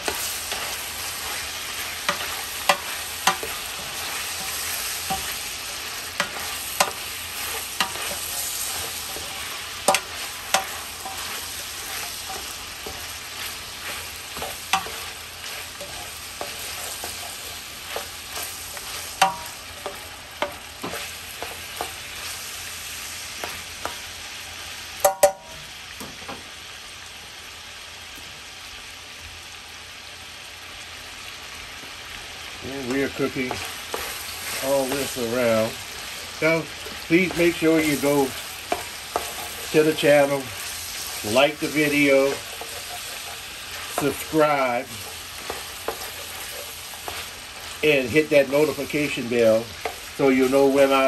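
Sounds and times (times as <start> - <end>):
meat sizzling in oil: 0.0 - 51.0.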